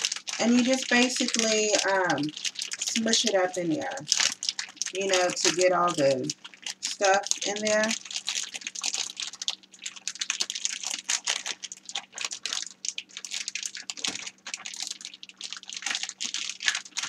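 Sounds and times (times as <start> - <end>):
hands squishing raw chicken: 0.0 - 17.0
plastic bag crinkling: 0.0 - 17.0.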